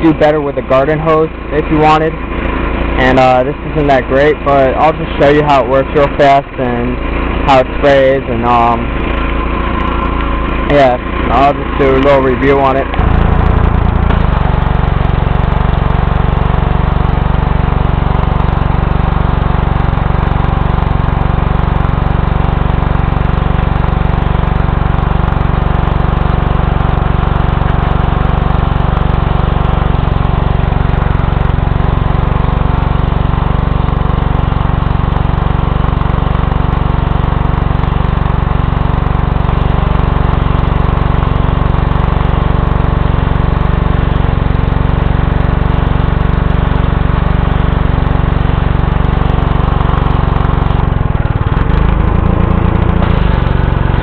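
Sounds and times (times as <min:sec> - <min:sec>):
small engine running steadily: 0:00.0 - 0:54.0.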